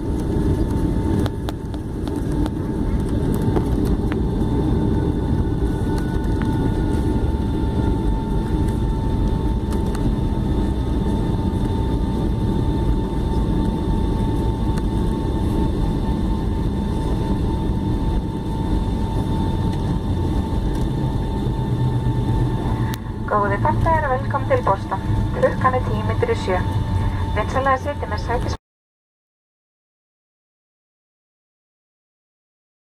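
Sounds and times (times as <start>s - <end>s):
deep rumble of airliner engines: 0.0s - 28.6s
thin steady whine: 0.1s - 28.6s.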